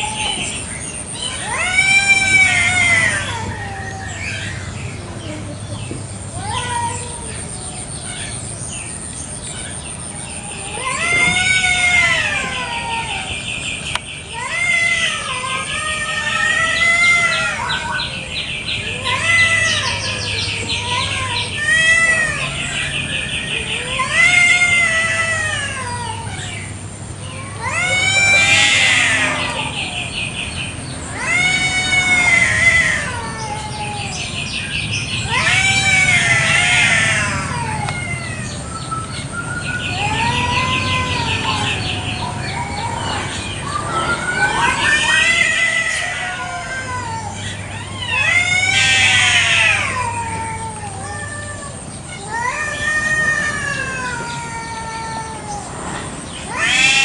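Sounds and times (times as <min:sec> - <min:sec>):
cats yowling: 0:00.0 - 0:05.6, 0:06.2 - 0:57.0.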